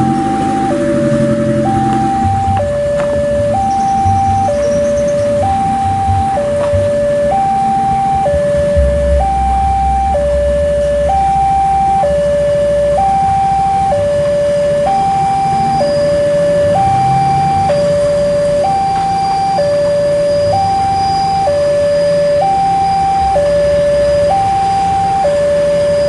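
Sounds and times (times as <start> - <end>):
two-tone level crossing alarm: 0.0 - 26.0.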